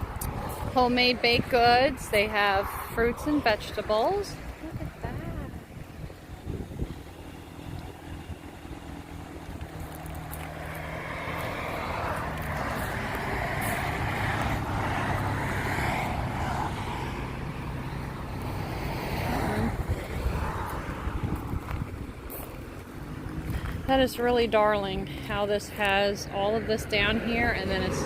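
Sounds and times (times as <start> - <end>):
road vehicle passing by: 0.0 - 28.0.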